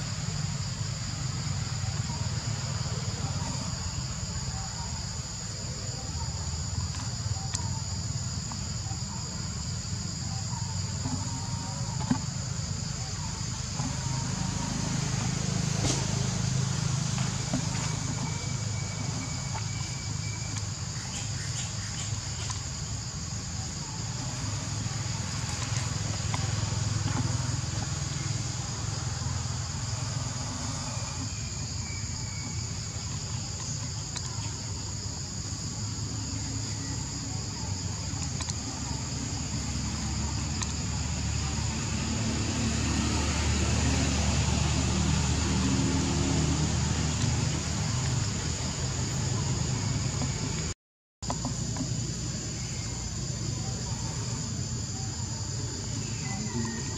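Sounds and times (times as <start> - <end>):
insect chorus buzzing: 0.0 - 56.9.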